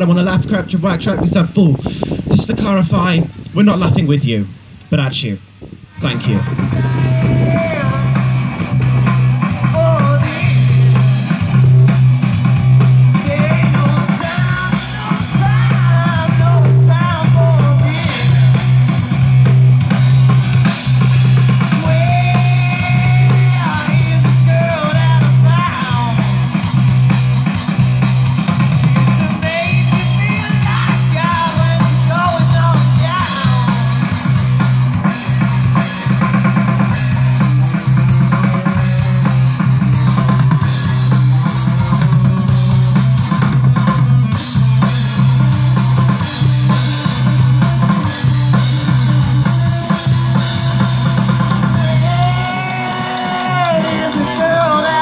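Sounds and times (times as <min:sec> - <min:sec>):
rock band playing: 0:05.5 - 0:55.0.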